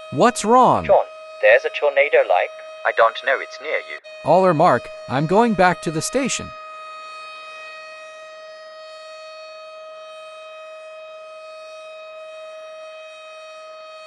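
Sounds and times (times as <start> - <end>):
warning siren steady tone: 0.0 - 14.0.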